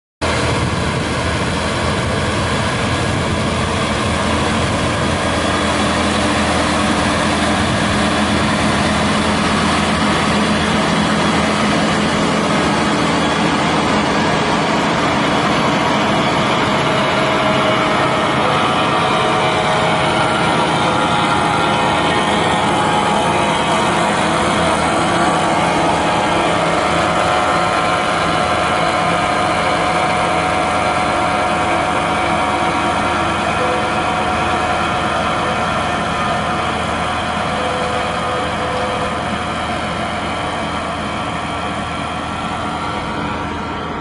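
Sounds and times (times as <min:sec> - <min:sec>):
tractor diesel engine running: 0:00.2 - 0:44.0.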